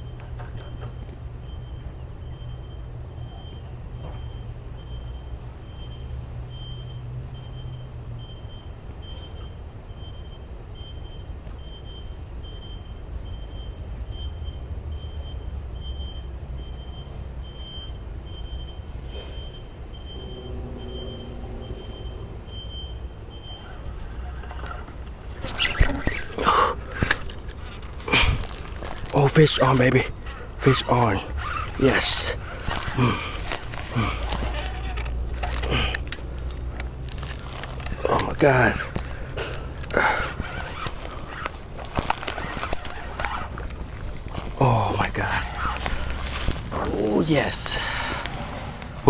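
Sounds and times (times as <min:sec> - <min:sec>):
faint high-pitched beeping: 0:00.0 - 0:48.3
distant road traffic rumble: 0:00.0 - 0:49.0.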